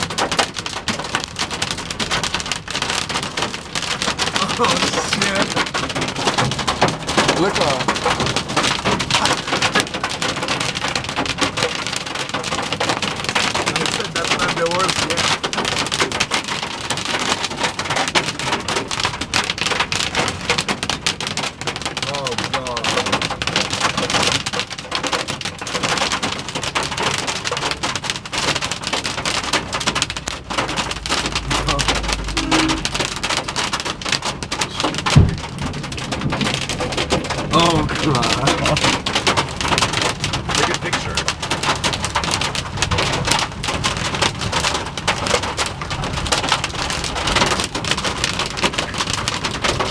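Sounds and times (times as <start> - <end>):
hailstones pelting a car: 0.0 - 49.9.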